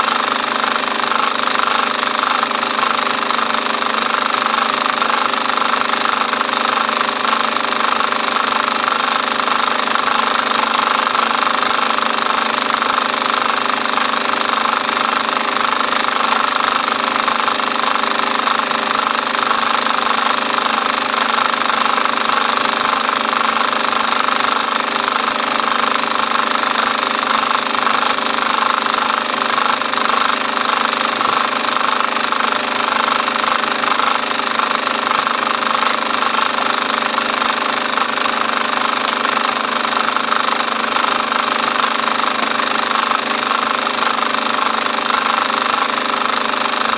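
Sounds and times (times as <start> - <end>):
film projector clattering: 0.0 - 46.9.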